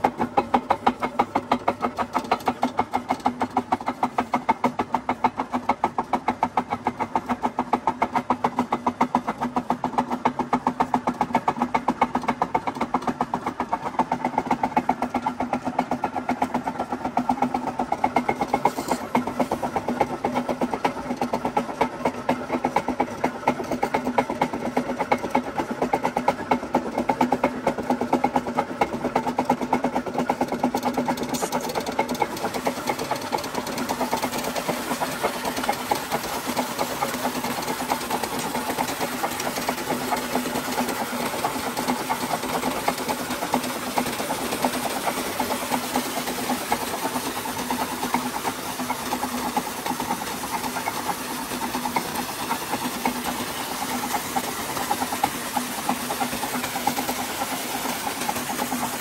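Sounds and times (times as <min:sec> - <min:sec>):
water gushing from pipe: 0:00.0 - 0:59.0
water pump humming: 0:00.0 - 0:59.0.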